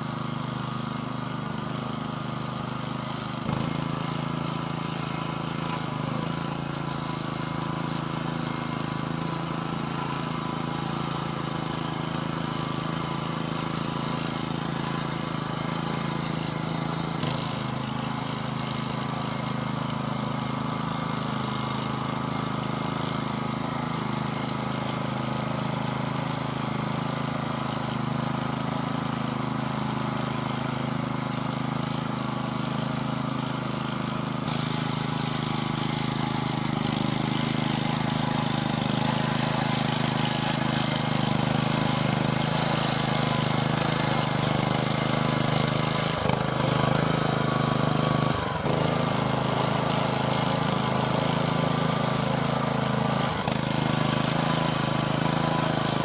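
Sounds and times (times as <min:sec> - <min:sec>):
walking tractor engine running: 0:00.0 - 0:56.0.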